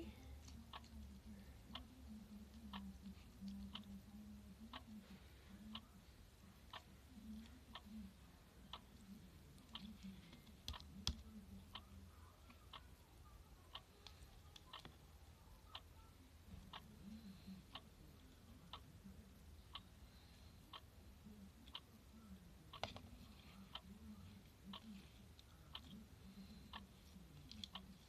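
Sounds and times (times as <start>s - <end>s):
faint steady ticking: 0.0s - 28.0s.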